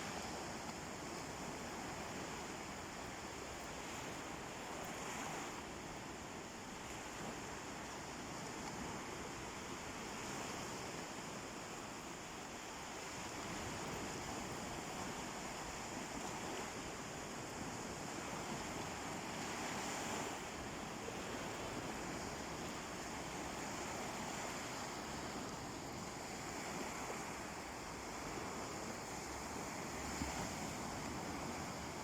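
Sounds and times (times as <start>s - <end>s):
sea waves washing onto shore: 0.0s - 32.0s.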